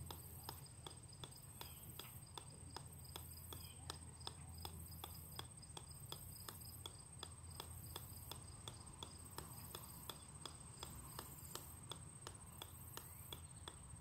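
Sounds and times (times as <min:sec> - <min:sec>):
golf ball ticking on sledgehammer: 0:00.0 - 0:14.0.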